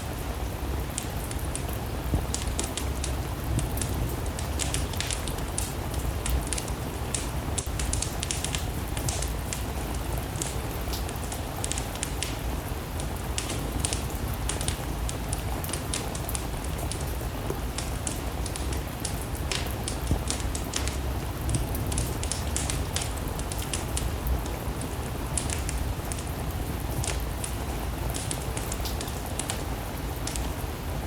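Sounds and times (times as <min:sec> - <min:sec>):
steady rain: 0:00.0 - 0:31.0
wood fire crackling: 0:00.0 - 0:31.0.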